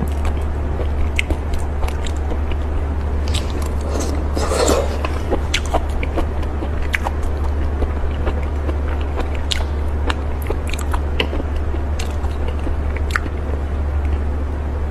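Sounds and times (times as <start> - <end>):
person chewing and crunching: 0.0 - 13.4
low hum: 0.0 - 14.9.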